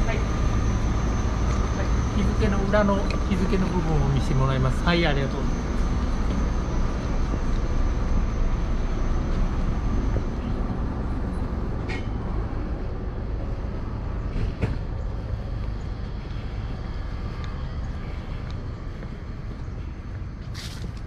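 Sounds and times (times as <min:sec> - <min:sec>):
electric train equipment hum: 0:00.0 - 0:21.0.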